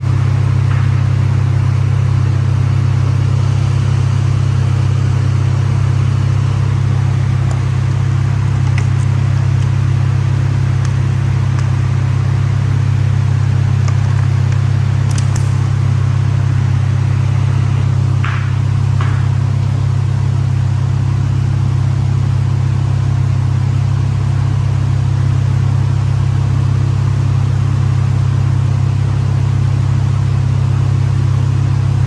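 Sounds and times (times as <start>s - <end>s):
car exhaust droning steadily: 0.0s - 32.0s.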